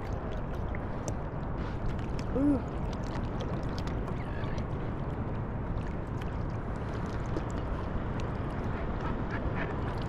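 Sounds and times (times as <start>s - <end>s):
water lapping against surfboard: 0.0s - 10.0s.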